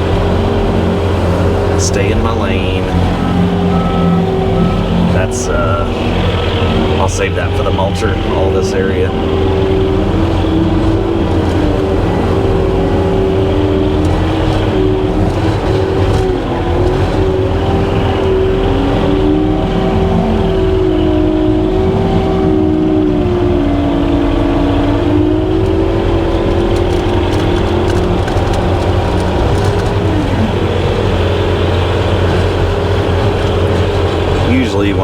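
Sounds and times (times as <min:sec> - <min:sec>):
diesel engine running under load: 0:00.0 - 0:35.0
hydraulic brush cutter droning: 0:00.0 - 0:35.0.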